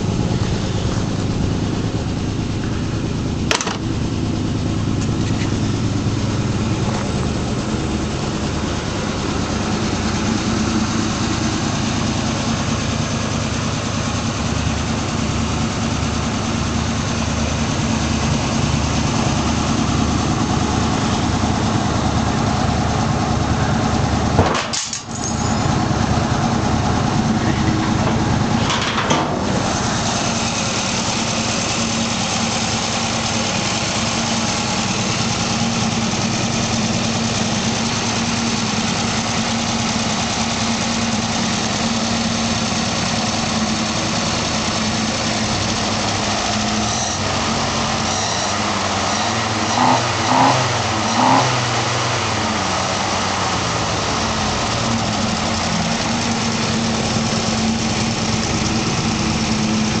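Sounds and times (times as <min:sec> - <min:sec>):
car engine idling: 0:00.0 - 1:00.0.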